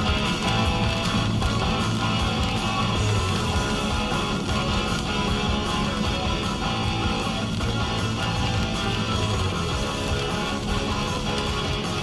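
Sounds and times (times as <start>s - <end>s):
rock music on car radio: 0.0s - 12.0s.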